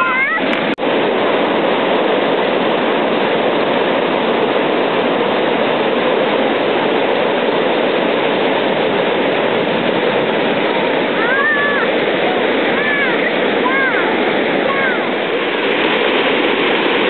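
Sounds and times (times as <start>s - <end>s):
whitewater pouring over weir: 0.0s - 17.0s.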